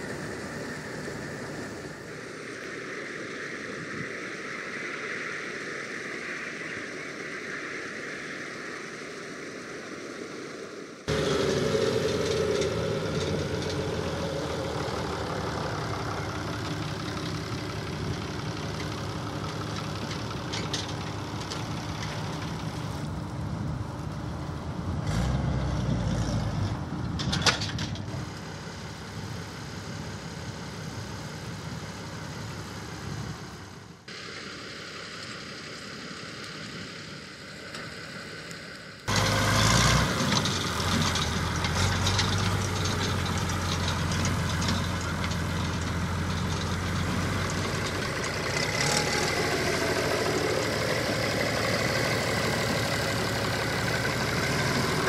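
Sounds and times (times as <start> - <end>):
distant combine harvester: 0.0 - 55.0
tractor diesel engine: 0.0 - 55.0.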